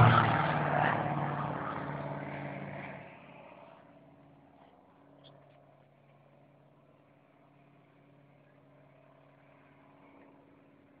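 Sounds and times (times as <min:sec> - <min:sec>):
aircraft engine hum overhead: 0:00.0 - 0:11.0.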